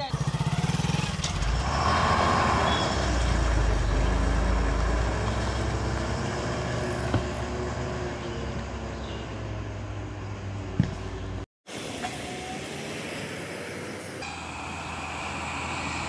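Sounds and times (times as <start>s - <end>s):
truck diesel engine droning: 0.0s - 11.4s, 14.2s - 16.0s.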